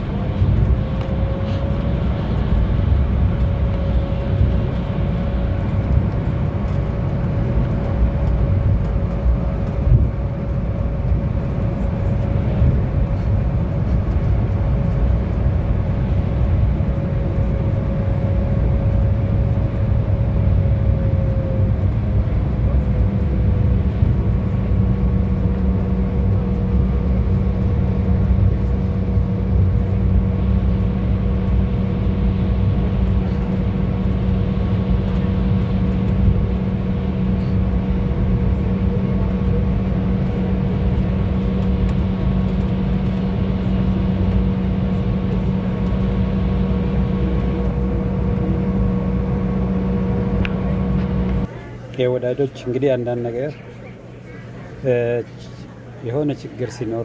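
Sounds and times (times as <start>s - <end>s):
airliner cabin rumble: 0.0s - 52.6s.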